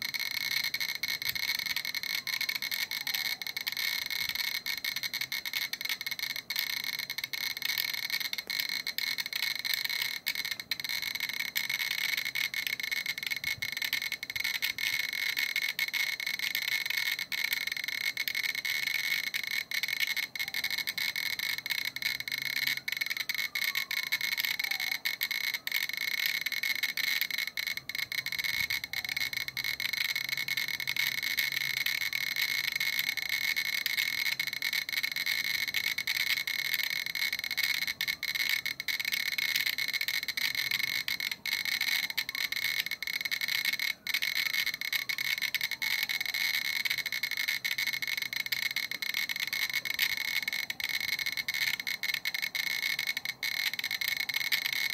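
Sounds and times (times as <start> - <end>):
geiger counter crackling: 0.0 - 54.9.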